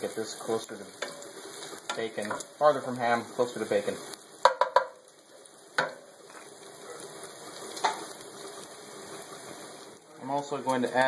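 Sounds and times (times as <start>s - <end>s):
pancetta sizzling in oil: 0.0s - 11.0s.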